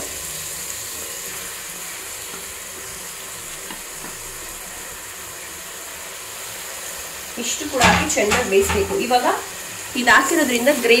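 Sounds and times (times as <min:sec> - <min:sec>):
meat frying in oil: 0:00.0 - 0:11.0.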